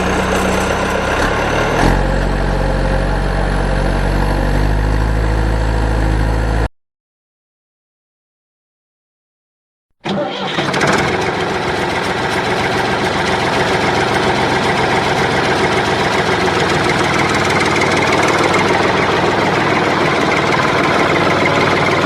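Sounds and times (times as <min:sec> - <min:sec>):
engine running: 0:00.0 - 0:06.7, 0:10.0 - 0:22.0.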